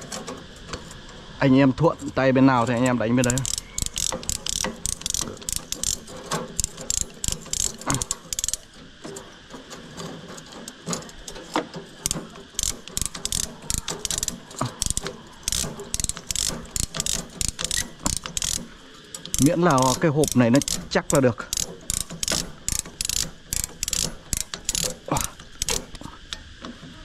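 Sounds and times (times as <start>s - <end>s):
ratchet tool pawl clicking: 2.0s - 8.9s, 10.6s - 26.4s.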